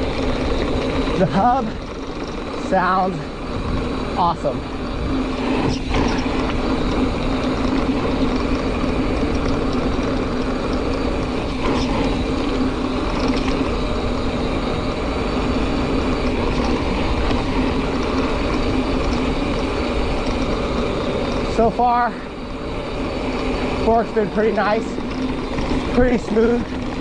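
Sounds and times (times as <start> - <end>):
bicycle freehub buzzing: 0.0 - 27.0
low rumble of tyres on dirt: 0.0 - 27.0.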